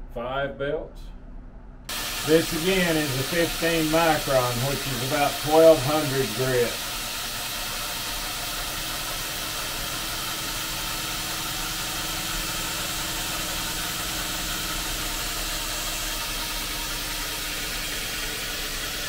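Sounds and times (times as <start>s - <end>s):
belt grinder motor hum: 1.9s - 19.0s
belt grinding steel hiss: 1.9s - 19.0s.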